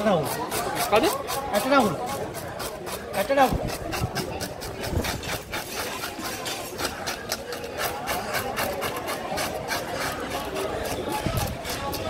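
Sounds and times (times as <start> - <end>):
fish scaler scraping scales: 0.0 - 12.0.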